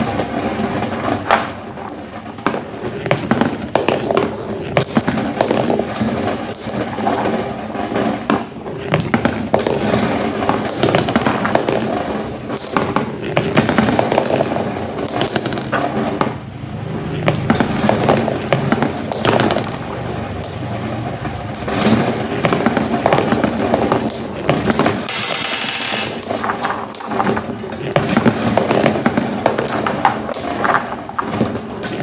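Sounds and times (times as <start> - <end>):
marbles rolling down a track: 0.0 - 32.0.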